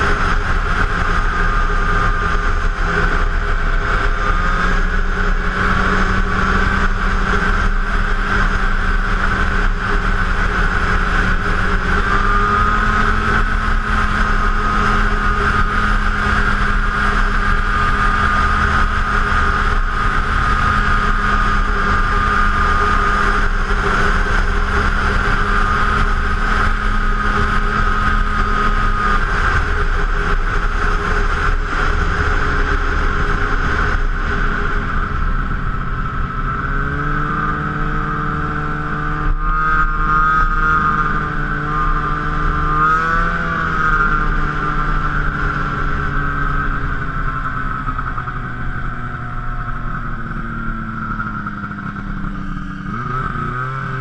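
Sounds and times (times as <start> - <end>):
high whine: 0.0 - 54.0
snowmobile engine running: 0.0 - 54.0.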